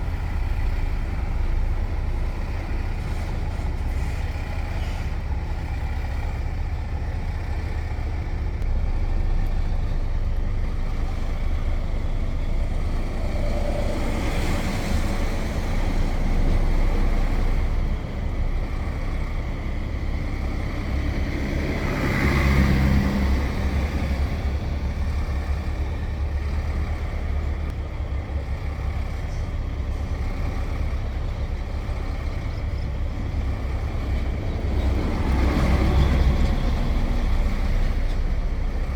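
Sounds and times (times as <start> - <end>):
truck diesel engine droning: 0.0 - 38.9
tyre and road noise: 0.0 - 38.9.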